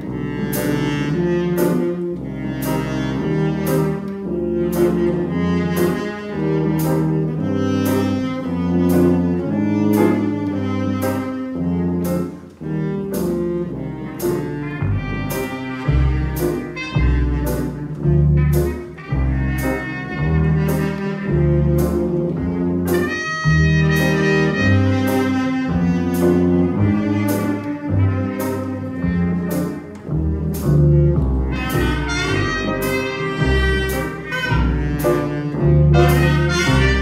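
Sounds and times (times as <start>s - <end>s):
jazz ensemble playing: 0.0s - 37.0s.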